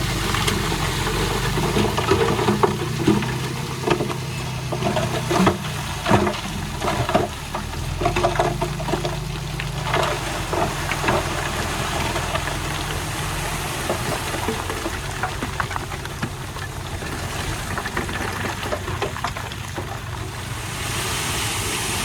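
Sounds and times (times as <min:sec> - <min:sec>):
heavy machinery diesel engine: 0:00.0 - 0:22.0
soil and stones clattering: 0:00.0 - 0:22.0.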